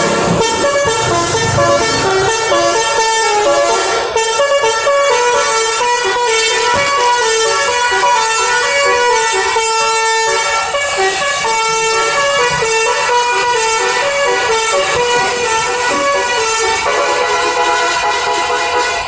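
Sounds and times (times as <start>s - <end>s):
multi-tone bus air horn melody: 0.0s - 19.0s.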